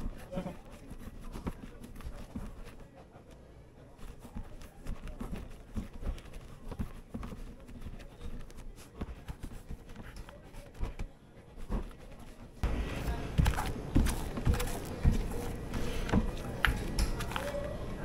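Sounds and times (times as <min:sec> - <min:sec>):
candy mass thudding and rubbing: 0:00.0 - 0:02.8, 0:04.0 - 0:17.6.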